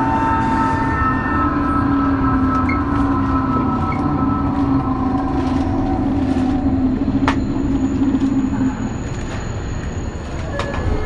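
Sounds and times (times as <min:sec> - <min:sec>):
motor drive hum and tones: 0:00.0 - 0:11.0
wheels rumbling on rail: 0:00.0 - 0:11.0.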